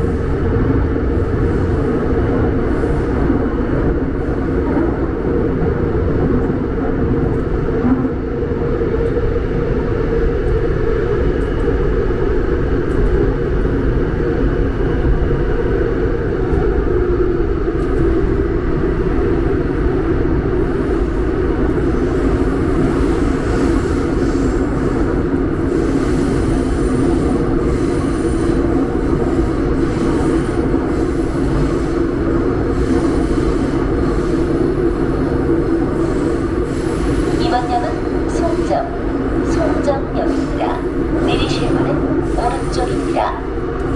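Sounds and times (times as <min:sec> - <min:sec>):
subway train rumbling on rails: 0:00.0 - 0:43.9.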